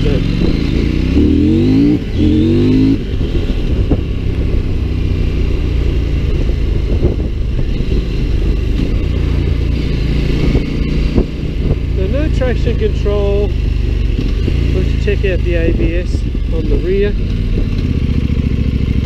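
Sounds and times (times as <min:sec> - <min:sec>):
motorcycle engine changing gears: 0:00.0 - 0:19.0
road noise: 0:00.0 - 0:19.0.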